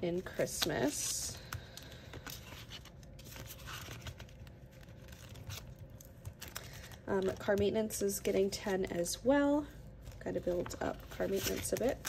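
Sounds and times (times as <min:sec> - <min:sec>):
plastic and paper rustling: 0:00.1 - 0:12.0.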